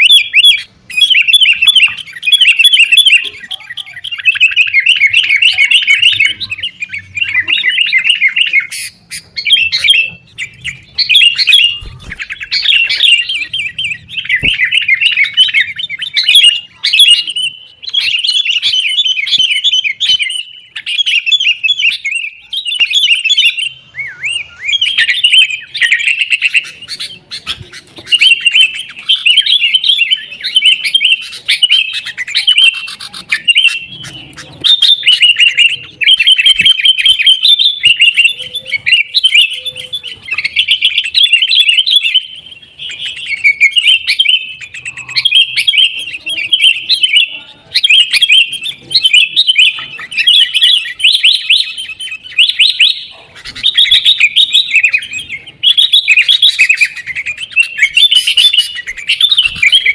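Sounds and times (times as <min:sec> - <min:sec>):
birds chattering and calling: 0:00.0 - 0:59.9.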